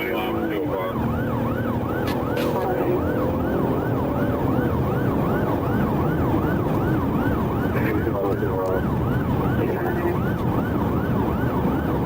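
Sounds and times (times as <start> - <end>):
engine and road noise: 0.0 - 12.0
police siren yelping: 0.0 - 12.0.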